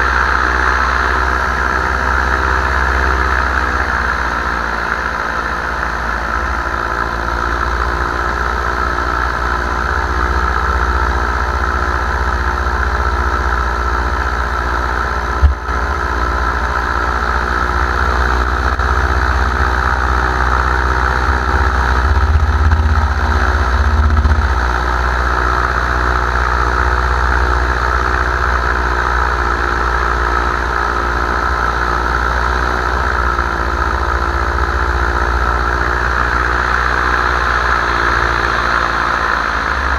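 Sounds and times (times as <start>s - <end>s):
low rumble: 0.0s - 39.8s
paramotor engine and propeller: 0.0s - 39.9s.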